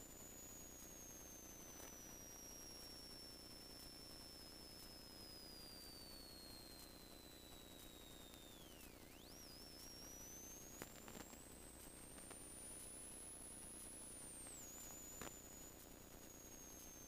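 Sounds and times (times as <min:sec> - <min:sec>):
faint clicks: 0:00.0 - 0:17.0
faint high-pitched whine: 0:00.0 - 0:17.0.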